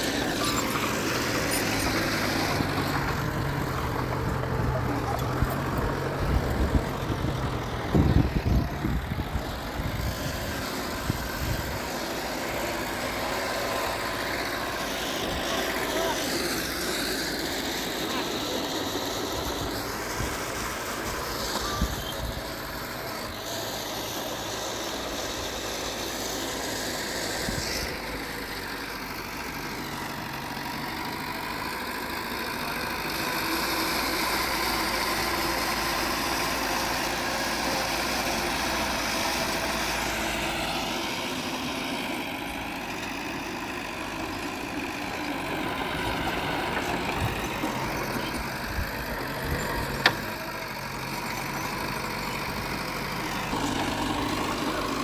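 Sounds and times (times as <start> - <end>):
diesel machinery engines running: 0.0 - 55.0.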